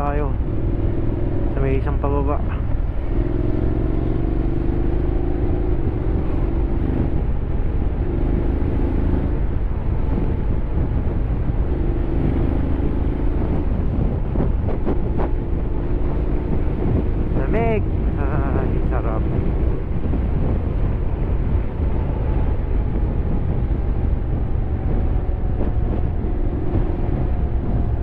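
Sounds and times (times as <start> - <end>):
road and wind rumble: 0.0 - 28.0.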